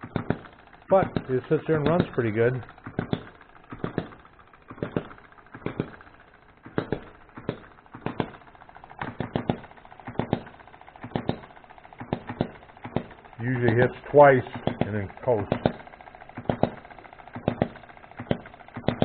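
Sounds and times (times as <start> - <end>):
engine firing pops: 0.0 - 8.4, 9.0 - 19.0.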